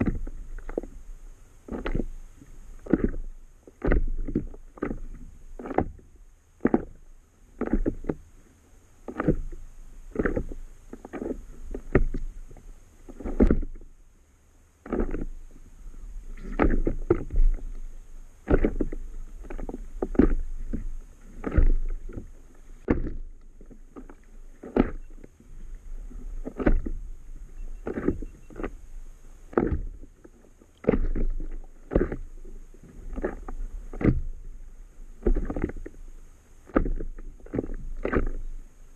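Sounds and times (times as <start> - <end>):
waves slapping against a board: 0.0 - 7.0, 7.6 - 8.2, 9.0 - 13.9, 14.8 - 15.4, 16.2 - 34.6, 35.2 - 38.5
low rumble of water: 0.0 - 38.9.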